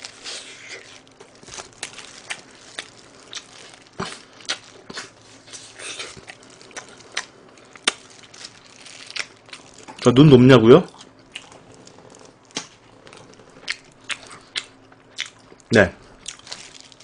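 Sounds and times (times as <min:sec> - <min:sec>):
crunchy fried chicken chewing: 0:00.0 - 0:10.2, 0:10.9 - 0:17.0.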